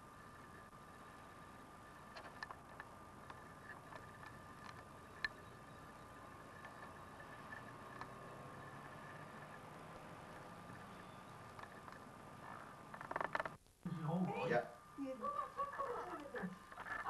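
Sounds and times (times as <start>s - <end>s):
camcorder whine: 0.0s - 17.0s.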